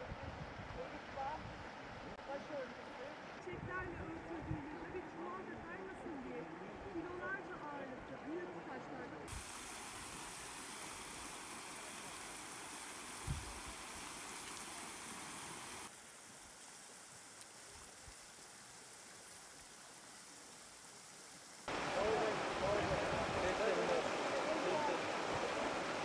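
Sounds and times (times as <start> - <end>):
creek rushing over stones: 0.7 - 26.0.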